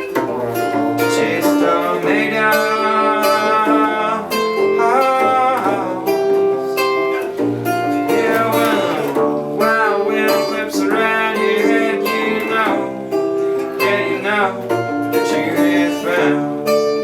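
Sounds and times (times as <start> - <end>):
acoustic guitar strummed: 0.0 - 17.0
person singing wordlessly: 0.0 - 17.0.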